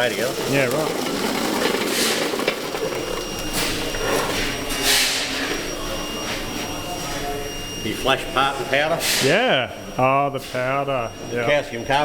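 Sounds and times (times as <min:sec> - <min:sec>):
high-pitched equipment whine: 0:00.0 - 0:12.0.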